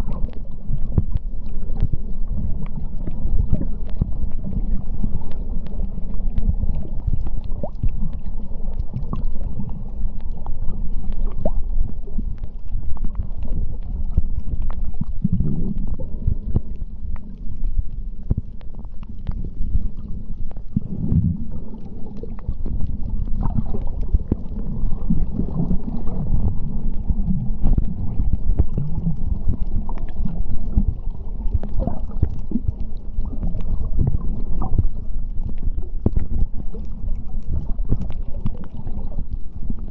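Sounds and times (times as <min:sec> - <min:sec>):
low underwater rumble: 0:00.0 - 0:39.9.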